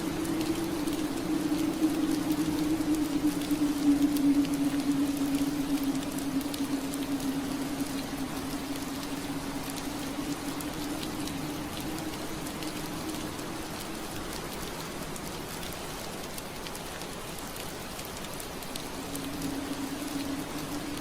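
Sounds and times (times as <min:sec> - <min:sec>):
rain on window glass: 0:00.0 - 0:21.0.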